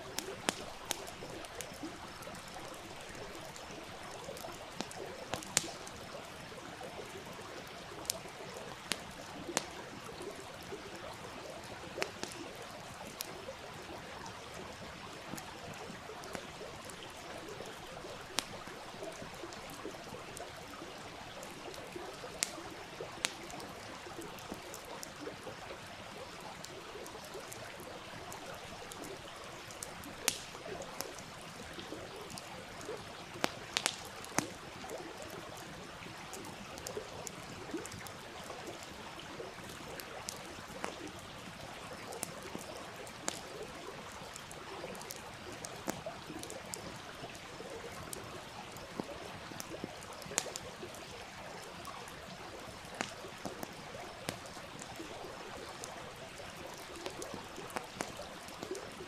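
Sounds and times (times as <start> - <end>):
stream running: 0.0 - 59.0
wood fire crackling: 0.0 - 59.0.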